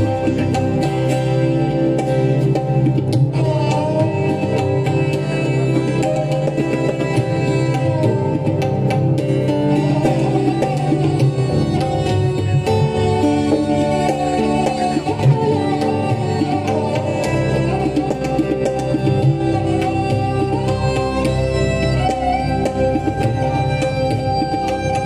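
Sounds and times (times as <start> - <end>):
guitar accompaniment: 0.0 - 25.0
tabla drumming: 0.0 - 25.0
violin melody: 0.0 - 25.0.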